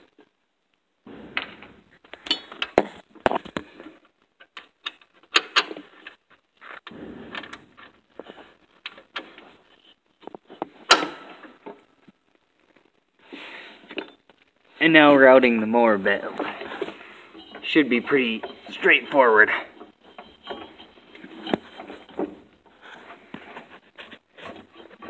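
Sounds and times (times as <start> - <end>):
rustling: 1.0 - 25.0.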